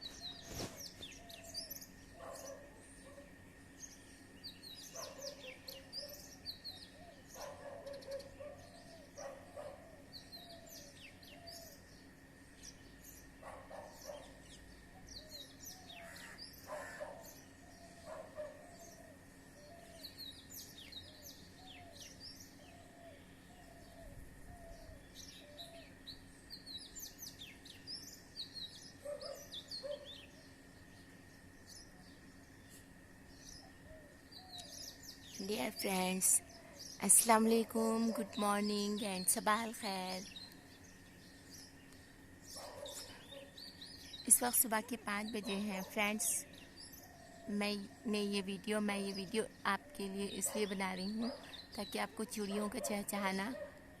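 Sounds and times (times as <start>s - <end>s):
faint steady hum: 0.0s - 54.0s
many small birds chirping: 0.0s - 54.0s.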